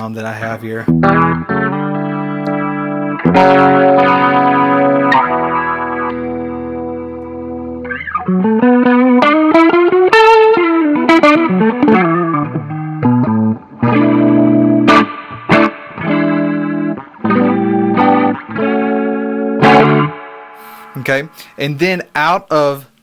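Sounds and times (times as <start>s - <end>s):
electric guitar with rotary warble: 0.9s - 20.8s.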